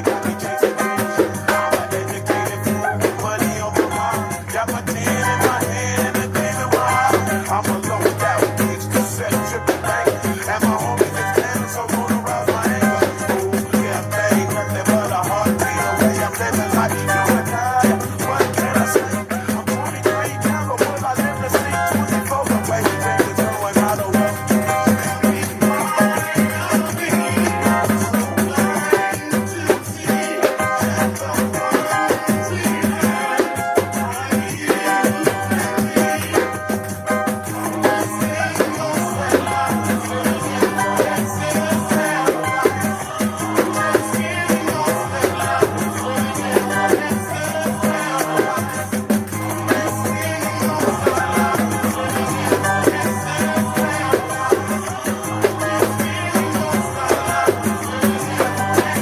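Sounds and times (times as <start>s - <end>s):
backing track: 0.0s - 59.0s
pandeiro with rattling jingles: 0.0s - 59.0s.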